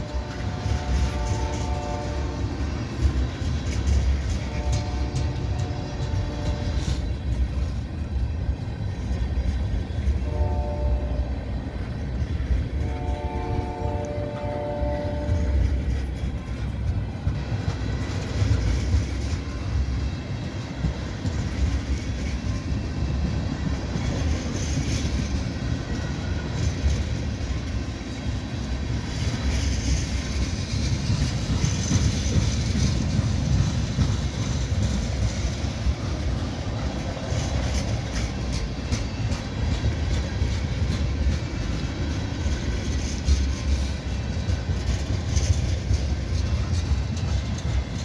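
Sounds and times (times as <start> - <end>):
wheel clacks over rail joints: 0.0 - 10.3, 11.8 - 48.0
steel wheels rumbling on rail: 0.0 - 48.0.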